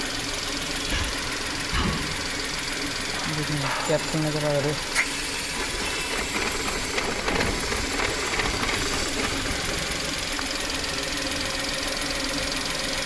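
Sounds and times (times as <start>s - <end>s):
petrol engine running with ticking: 0.0s - 13.0s.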